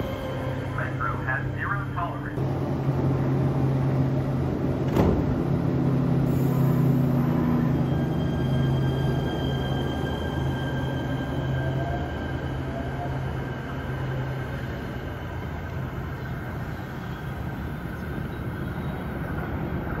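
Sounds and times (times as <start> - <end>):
electric hum of train: 0.0 - 20.0
wheels rumbling on rails: 0.0 - 20.0.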